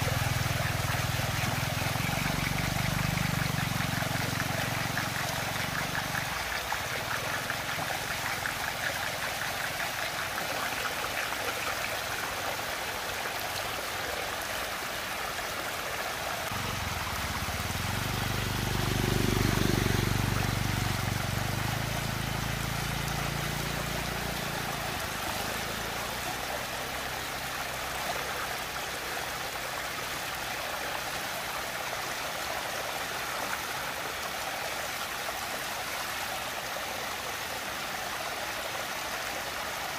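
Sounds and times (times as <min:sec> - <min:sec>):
whirlpool water rushing and swirling: 0:00.0 - 0:39.9.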